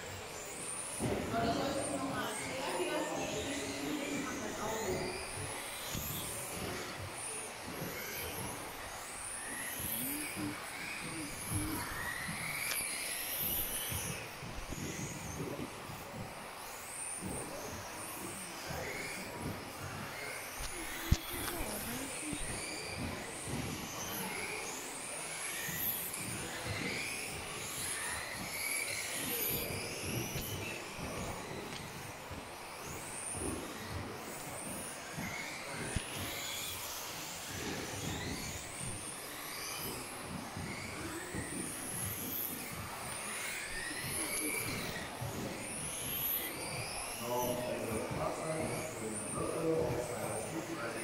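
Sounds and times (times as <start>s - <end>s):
rc buggy motors whining: 0.0s - 51.0s.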